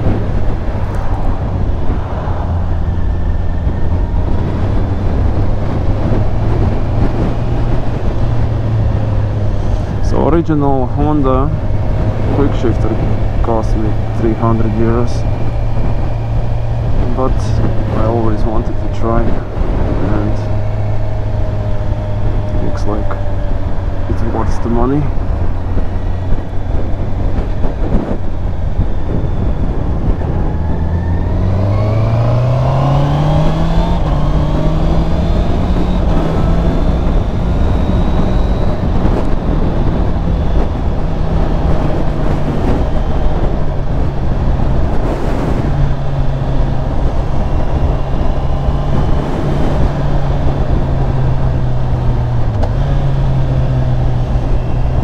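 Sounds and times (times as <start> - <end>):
motorcycle engine accelerating: 0.0 - 55.0
wind rush on microphone: 0.0 - 55.0.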